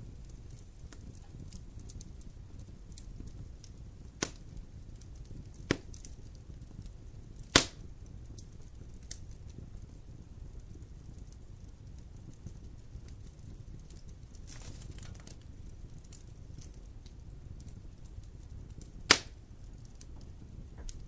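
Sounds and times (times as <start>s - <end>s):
fire sharp pops: 0.0s - 21.0s
wood fire crackling: 0.0s - 21.0s.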